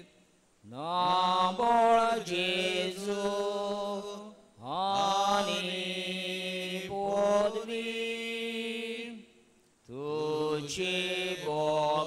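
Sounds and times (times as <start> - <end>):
slow devotional chanting: 0.0 - 12.0.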